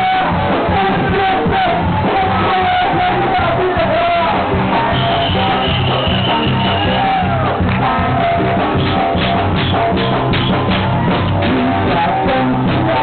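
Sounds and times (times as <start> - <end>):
drum kit beat: 0.0 - 13.0
live band playing upbeat music: 0.0 - 13.0.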